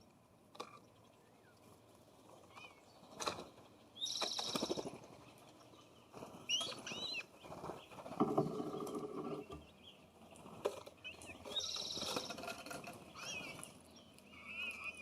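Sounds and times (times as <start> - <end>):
birds calling: 0.6 - 15.0.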